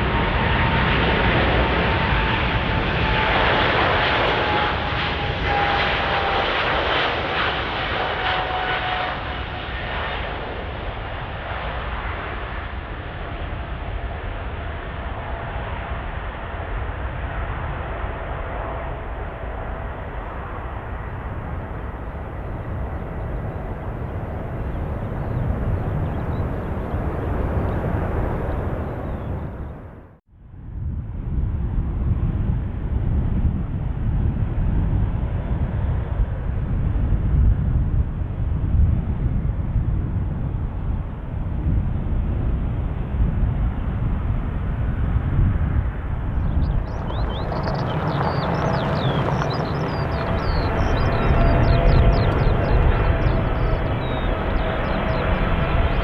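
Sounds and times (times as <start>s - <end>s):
jet airliner engines rumbling: 0.0s - 56.0s.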